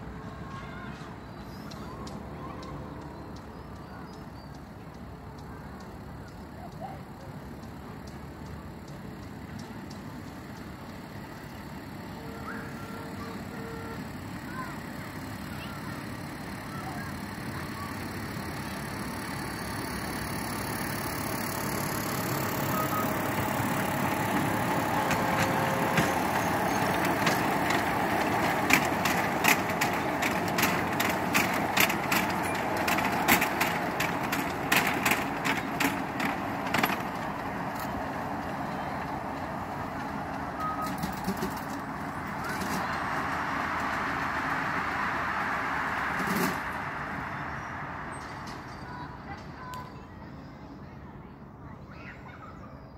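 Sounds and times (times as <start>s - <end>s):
miniature train rumbling past: 0.0s - 52.9s
wheels clicking over rail joints: 0.2s - 50.8s.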